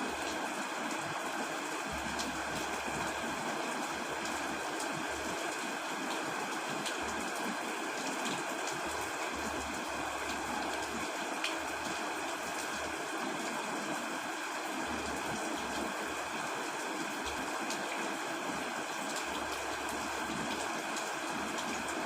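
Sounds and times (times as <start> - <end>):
heavy rain on a tent: 0.0 - 22.0.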